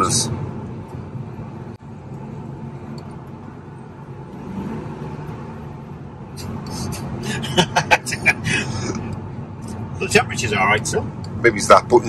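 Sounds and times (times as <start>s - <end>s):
car cabin engine drone: 0.0s - 12.0s.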